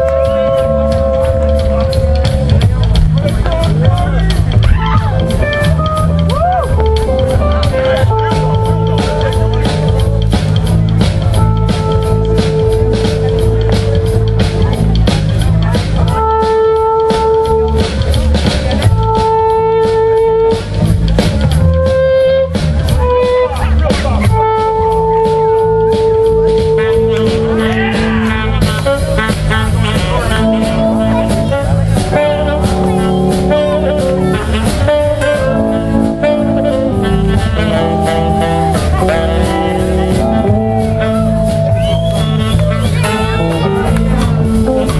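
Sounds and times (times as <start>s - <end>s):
saxophone holding long notes: 0.0s - 18.2s, 18.8s - 44.9s
live rock band: 0.0s - 44.9s.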